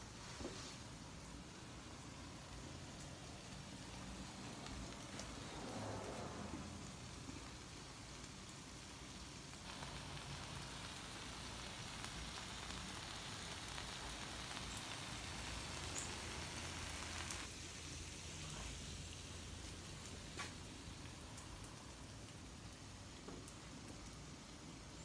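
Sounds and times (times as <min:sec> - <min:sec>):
food sizzling on a griddle: 0:00.0 - 0:25.0.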